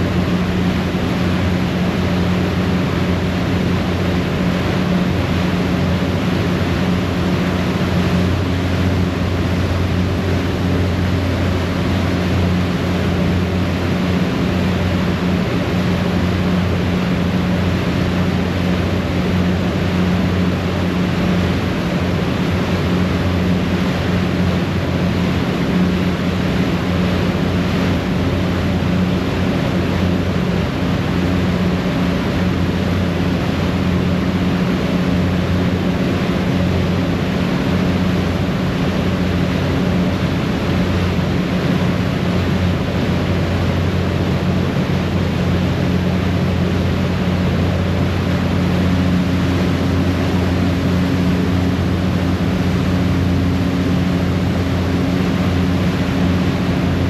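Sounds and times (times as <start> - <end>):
churning wake: 0.0 - 57.0
ferry engine drone: 0.0 - 57.0
wind: 0.0 - 57.0.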